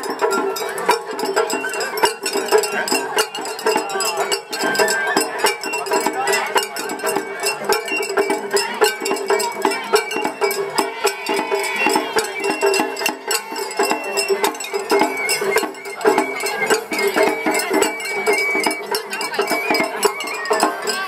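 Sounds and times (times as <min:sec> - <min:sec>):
high bamboo flute: 0:00.0 - 0:21.0
rapid drum and gong strikes: 0:00.0 - 0:21.0.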